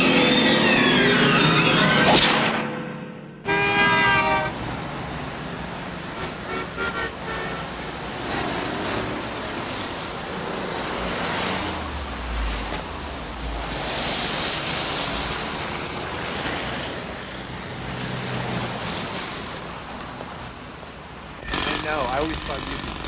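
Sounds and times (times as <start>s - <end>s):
rushing noise: 0.0s - 19.6s.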